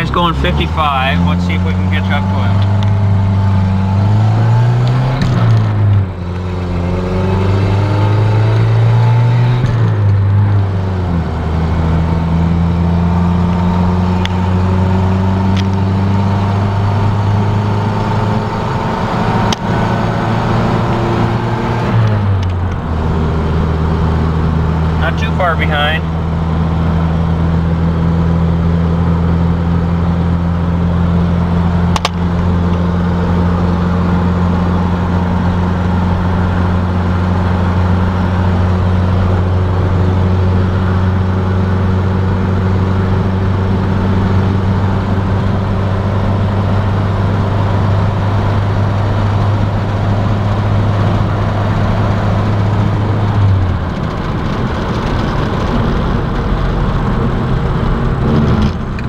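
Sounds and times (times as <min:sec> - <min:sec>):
road noise: 0:00.0 - 0:59.0
truck engine droning: 0:00.0 - 0:59.0.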